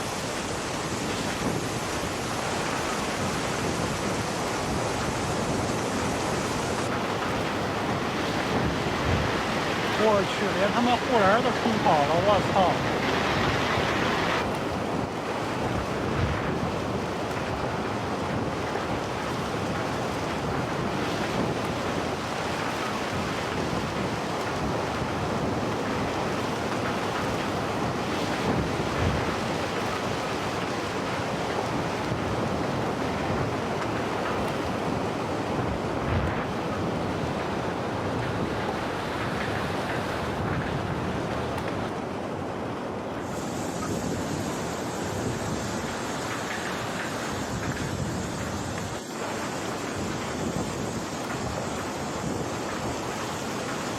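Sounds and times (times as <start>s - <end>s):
floodwater rushing: 0.0s - 53.9s
wind buffeting microphone: 0.0s - 53.9s.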